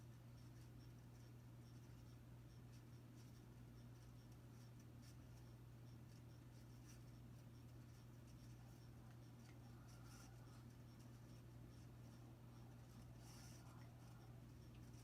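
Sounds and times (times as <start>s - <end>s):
ceiling fan motor hum: 0.0s - 15.0s
scratchy bearing ticking: 0.0s - 15.0s.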